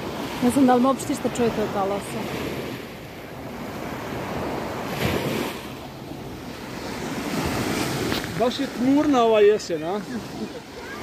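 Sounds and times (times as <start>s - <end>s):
small waves breaking on shore: 0.0s - 11.0s.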